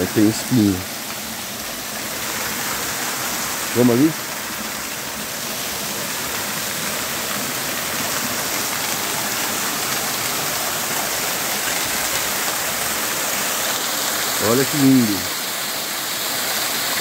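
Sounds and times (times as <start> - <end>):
waterfall splashing onto rocks: 0.0 - 17.0.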